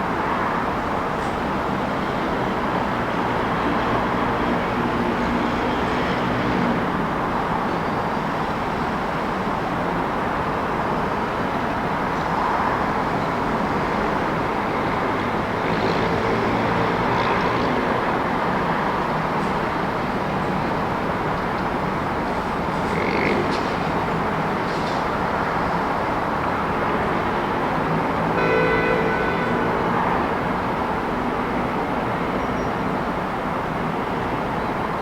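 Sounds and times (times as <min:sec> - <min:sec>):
passing vehicles: 0:00.0 - 0:35.0.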